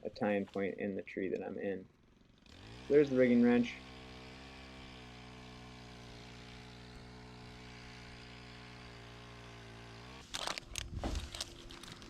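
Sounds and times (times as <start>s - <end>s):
small engine idling: 1.8s - 12.0s.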